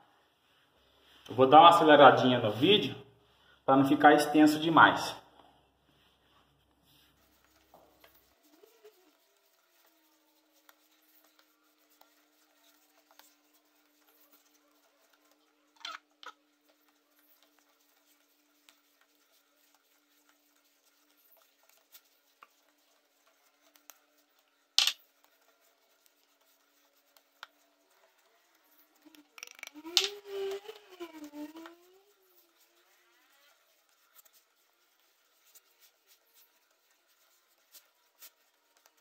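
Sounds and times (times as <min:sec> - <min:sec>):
hands kneading dough: 0:05.5 - 0:39.0.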